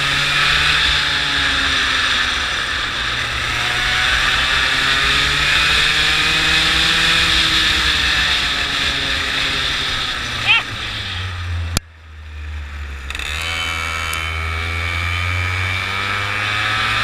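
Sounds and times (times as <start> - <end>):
go-kart engine accelerating: 0.0 - 17.0.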